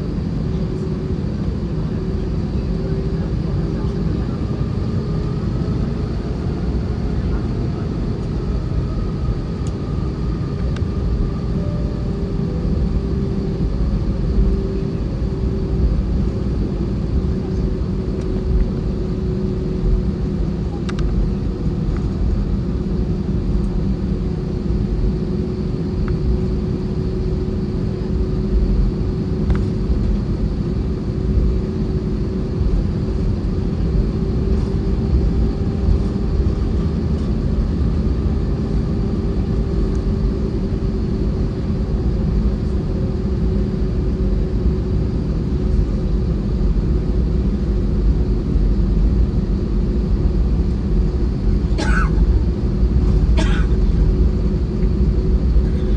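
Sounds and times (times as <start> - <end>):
jet engines rumbling in cabin: 0.0 - 55.9.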